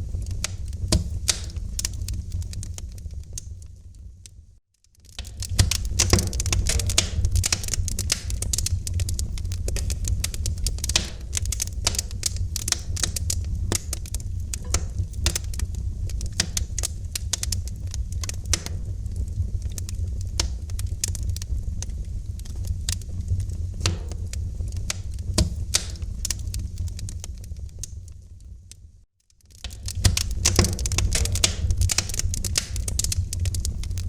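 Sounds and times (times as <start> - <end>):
burning wood crackling and popping: 0.0 - 34.0
low rumble of flames: 0.0 - 34.0.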